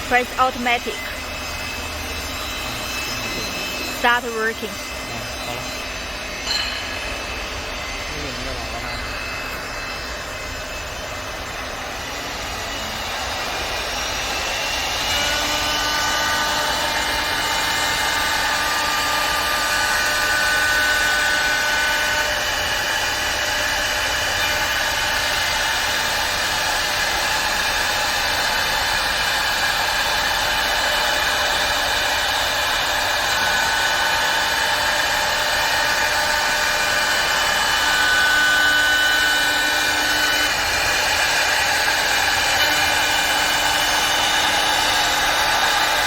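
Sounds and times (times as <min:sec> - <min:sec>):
wood lathe spindle whine: 0:00.0 - 0:46.0.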